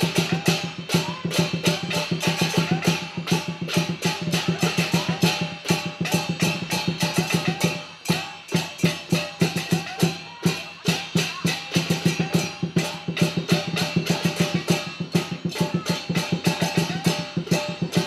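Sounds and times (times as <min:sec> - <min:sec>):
rapid drum strikes: 0:00.0 - 0:18.0.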